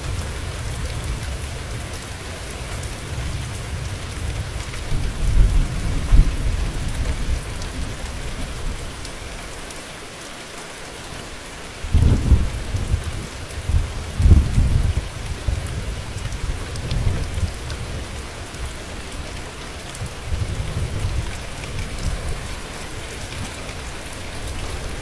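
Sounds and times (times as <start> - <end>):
thunder rumbling: 0.0 - 9.4, 11.8 - 25.0
steady rain falling: 0.0 - 25.0.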